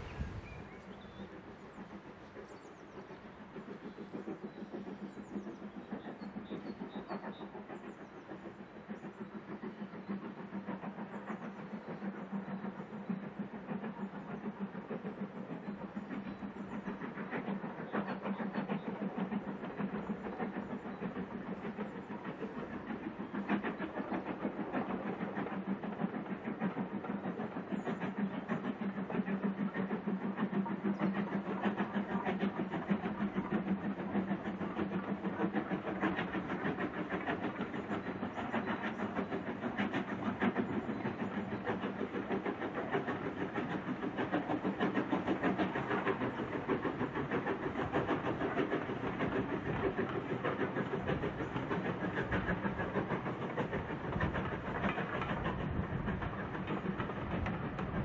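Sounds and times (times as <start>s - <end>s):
distant steam locomotive exhaust beats: 0.0s - 58.0s.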